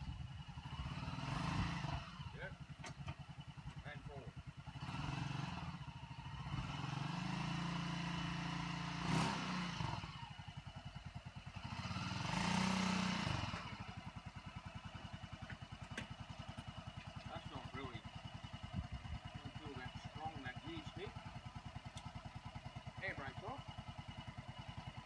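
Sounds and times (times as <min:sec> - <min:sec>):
engine idling and revving: 0:00.0 - 0:25.0.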